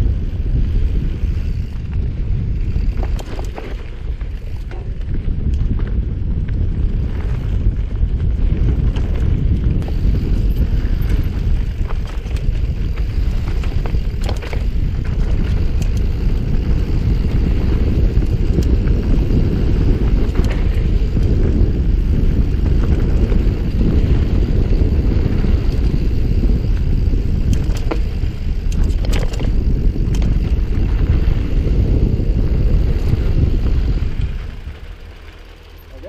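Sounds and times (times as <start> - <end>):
bike clicks and rattles: 0.0 - 36.0
bike tyre noise on dirt: 0.0 - 36.0
wind buffeting microphone: 0.0 - 36.0.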